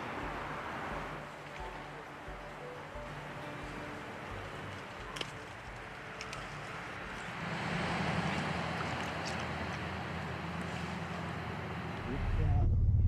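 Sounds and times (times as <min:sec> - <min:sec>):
river water running over rocks: 0:00.0 - 0:11.9.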